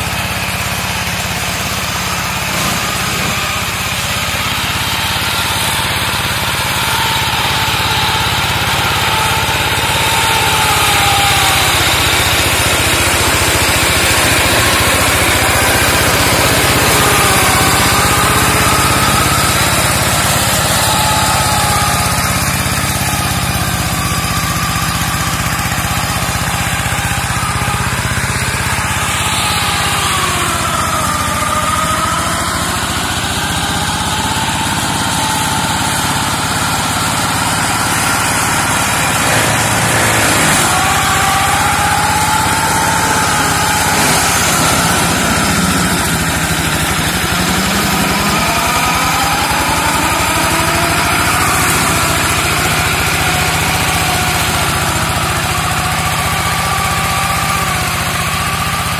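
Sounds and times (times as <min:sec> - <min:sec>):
hand tractor engine running: 0:00.0 - 0:58.9.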